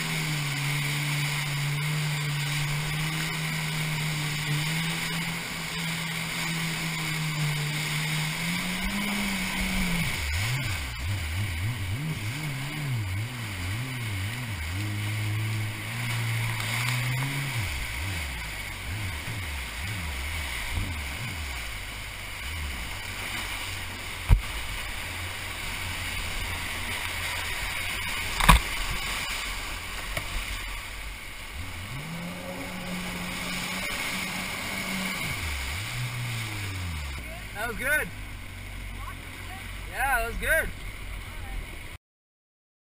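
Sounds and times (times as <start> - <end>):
jet ski engine revving: 0.0 - 42.0
river rushing: 0.0 - 42.0.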